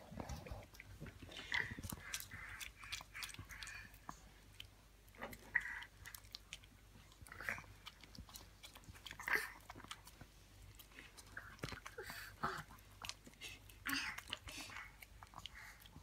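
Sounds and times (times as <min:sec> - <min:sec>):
dog licking and smacking: 0:00.1 - 0:16.0.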